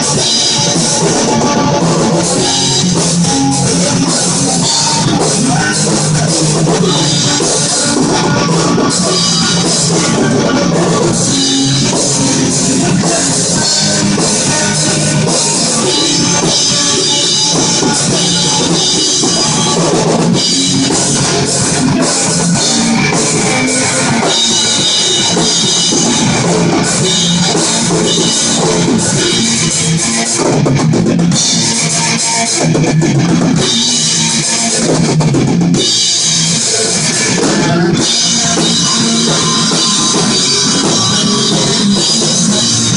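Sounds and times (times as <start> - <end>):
loud rock music with drums and guitar: 0.0 - 42.9.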